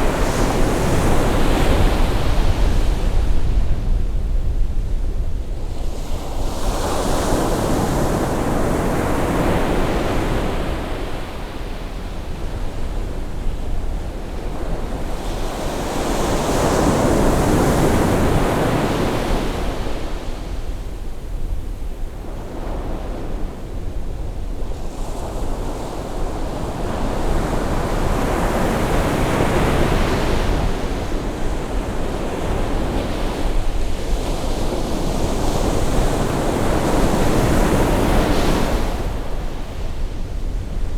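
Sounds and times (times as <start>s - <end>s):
wind rumbling on microphone: 0.0s - 40.9s.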